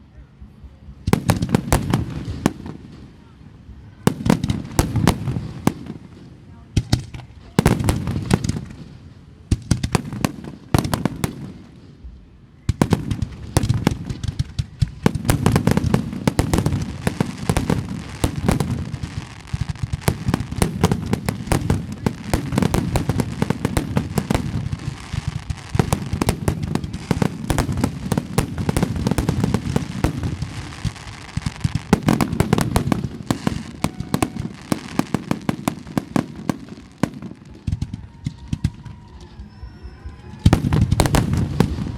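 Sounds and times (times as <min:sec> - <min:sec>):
fireworks bangs and crackles: 0:00.6 - 0:41.9
firework booms: 0:00.9 - 0:39.3, 0:40.1 - 0:41.9.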